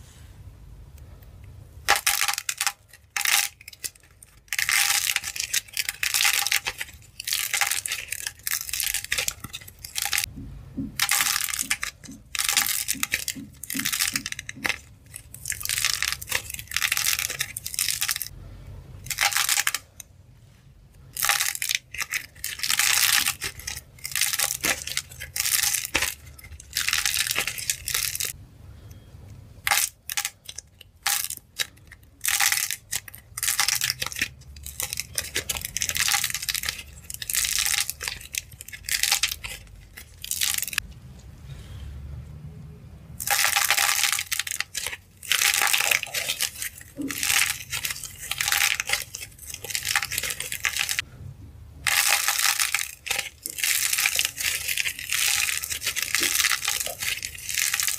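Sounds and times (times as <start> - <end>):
clay shells cracking by hand: 1.8 - 18.4, 19.0 - 20.1, 21.1 - 28.4, 29.6 - 40.8, 43.2 - 51.1, 51.8 - 57.9.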